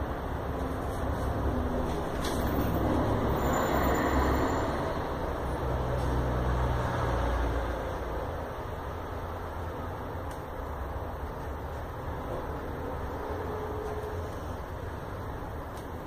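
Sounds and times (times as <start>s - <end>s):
broad rushing noise: 0.0s - 16.0s.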